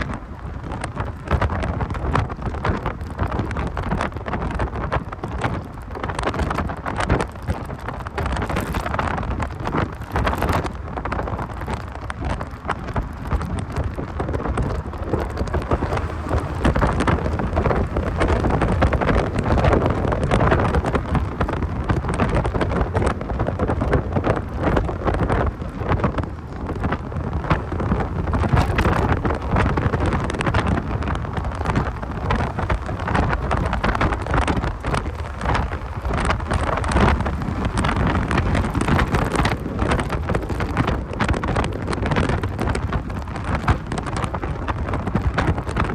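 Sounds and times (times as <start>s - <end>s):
low rumble of car: 0.0s - 45.9s
wind buffeting microphone: 0.0s - 45.9s.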